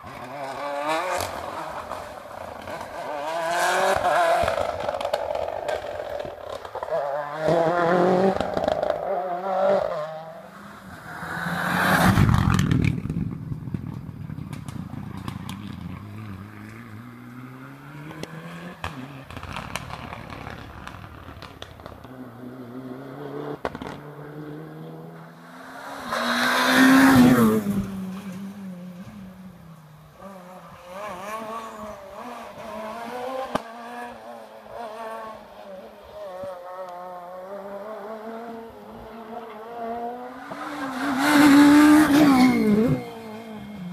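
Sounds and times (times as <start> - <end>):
rally car engines revving: 0.0 - 13.1, 13.8 - 43.9
cars passing with tyre noise: 0.0 - 43.9.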